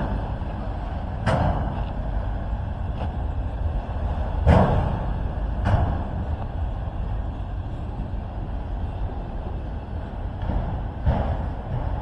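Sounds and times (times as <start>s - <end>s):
passing train rumbling: 0.0s - 12.0s.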